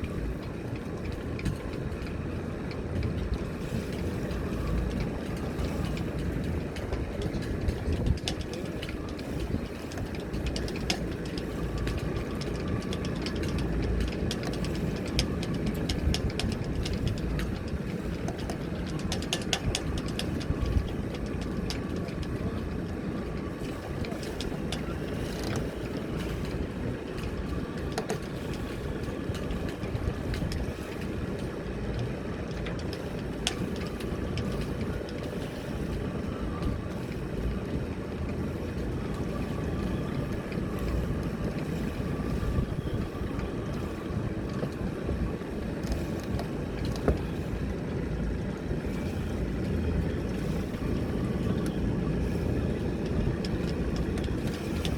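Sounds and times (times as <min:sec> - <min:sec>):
boat engine rumble: 0:00.0 - 0:54.9
faint steady tones: 0:00.0 - 0:54.9
wind buffeting microphone: 0:00.0 - 0:54.9.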